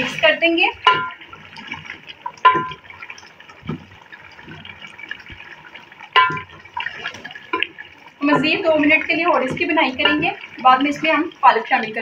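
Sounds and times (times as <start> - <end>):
stew bubbling and sizzling: 0.0 - 12.0.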